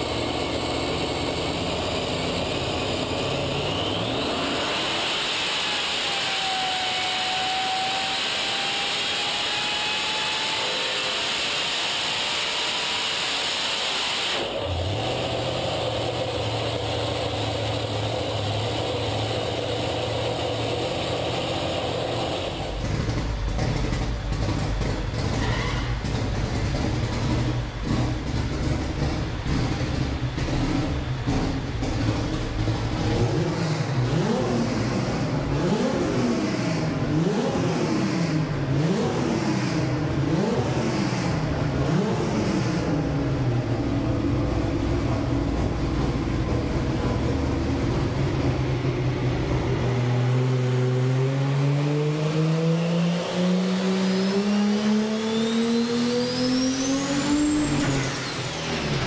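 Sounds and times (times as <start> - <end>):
turbocharged engine revving: 0.0 - 25.4, 26.0 - 59.0.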